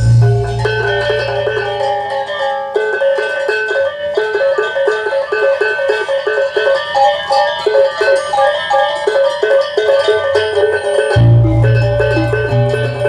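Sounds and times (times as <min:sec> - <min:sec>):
amplified gamelan music: 0:00.0 - 0:13.0.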